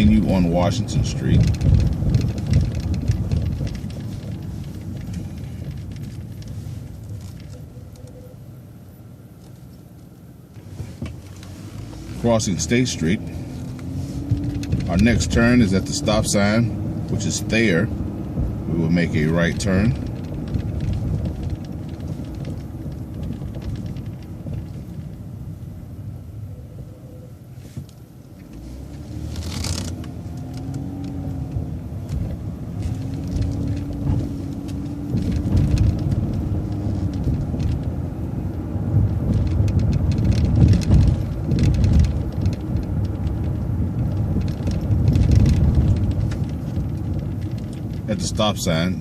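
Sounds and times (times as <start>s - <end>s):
bus engine and road rumble: 0.0s - 49.0s.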